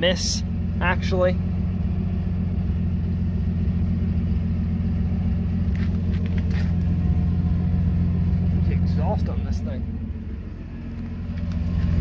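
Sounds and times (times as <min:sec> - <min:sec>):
engine exhaust idling: 0:00.0 - 0:12.0.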